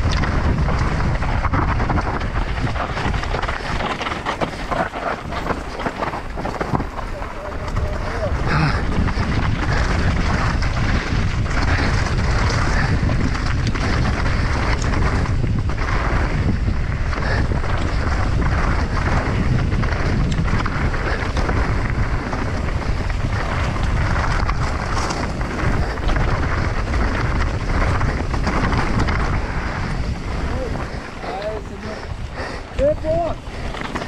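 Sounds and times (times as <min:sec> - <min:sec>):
bike tyres rattling over stones: 0:00.0 - 0:34.0
wind buffeting microphone: 0:00.0 - 0:34.0.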